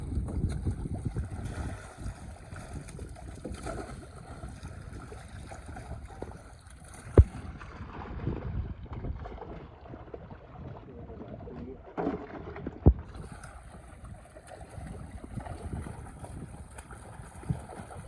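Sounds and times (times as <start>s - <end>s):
water sounds: 0.0s - 18.0s
wind buffeting microphone: 0.0s - 18.0s.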